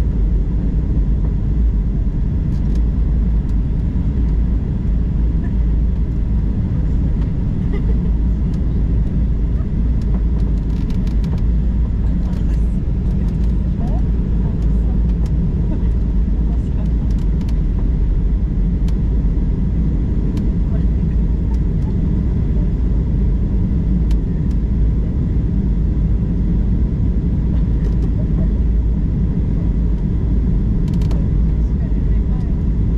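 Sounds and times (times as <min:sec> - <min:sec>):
airliner cabin engine rumble: 0:00.0 - 0:32.9.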